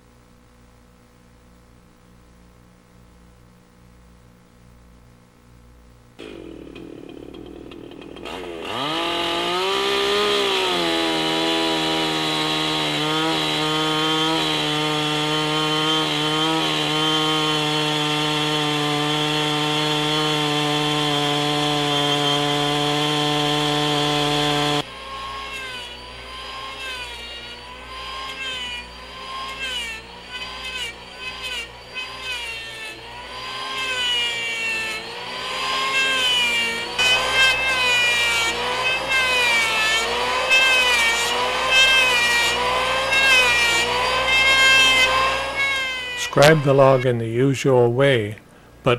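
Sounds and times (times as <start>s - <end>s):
electric hand planer whining: 6.2s - 47.0s
chainsaw cutting log: 6.2s - 47.1s.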